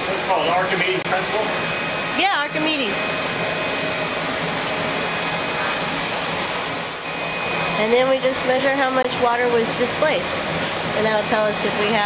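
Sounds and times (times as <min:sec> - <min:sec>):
electric fan motor whirring: 0:00.0 - 0:12.0.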